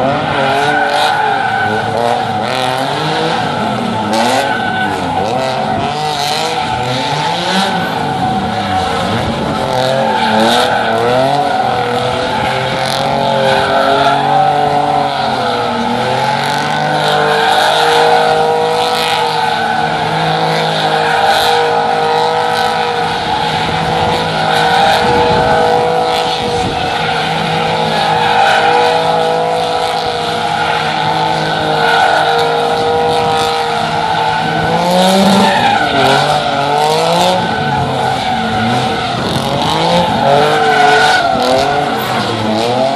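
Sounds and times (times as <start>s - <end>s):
car engine revving: 0.0s - 42.9s
tyres squealing: 0.0s - 42.9s.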